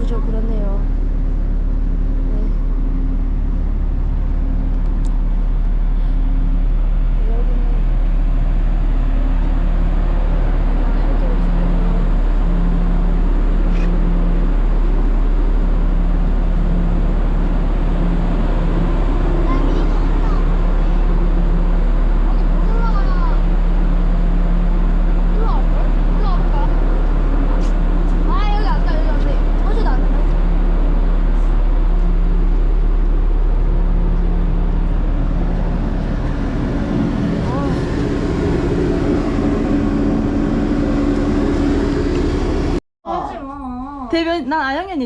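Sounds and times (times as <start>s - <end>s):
ferry engines rumbling: 0.0s - 45.0s.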